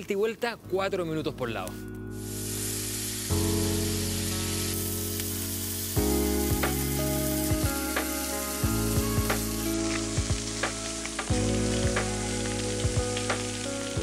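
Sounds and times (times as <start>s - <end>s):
background music with sustained chords: 0.6s - 14.0s
steak sizzling on a grill: 2.0s - 14.0s.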